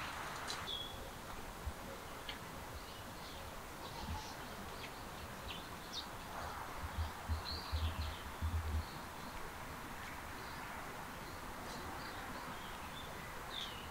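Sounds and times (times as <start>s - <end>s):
birds chirping: 0.0s - 13.9s
faint outdoor hiss: 0.0s - 13.9s.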